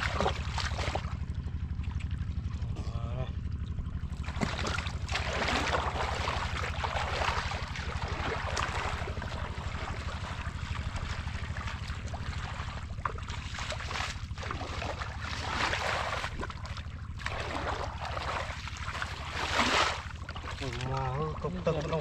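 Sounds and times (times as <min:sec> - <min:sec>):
muddy water sloshing and splashing: 0:00.0 - 0:22.0
steady low drone: 0:00.0 - 0:22.0.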